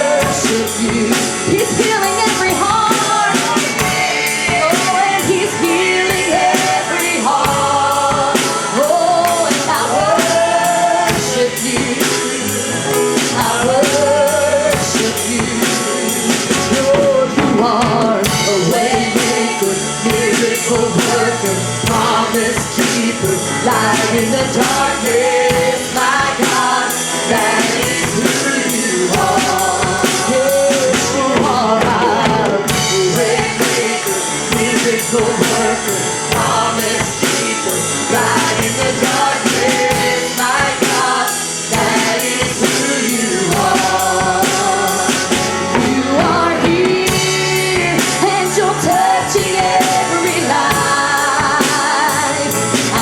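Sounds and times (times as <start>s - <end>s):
person singing: 0.0s - 53.0s
worship band with drum kit: 0.0s - 53.0s.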